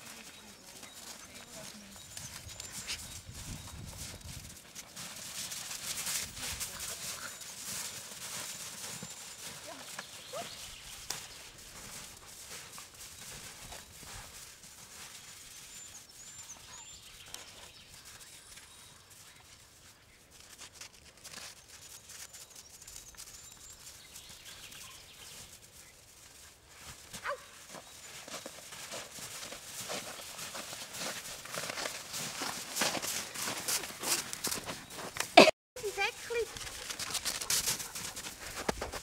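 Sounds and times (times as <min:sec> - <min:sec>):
footsteps crunching through snow: 0:00.0 - 0:17.2, 0:17.9 - 0:39.0.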